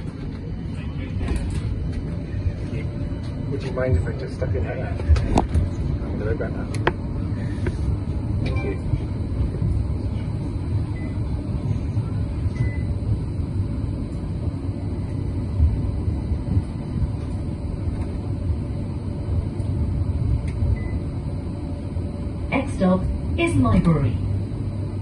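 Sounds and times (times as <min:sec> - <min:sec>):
tram rumbling: 0:00.0 - 0:25.0.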